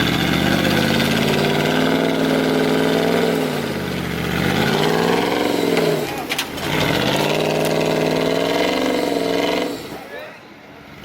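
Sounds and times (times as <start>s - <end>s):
engine revving under load: 0.0s - 10.2s.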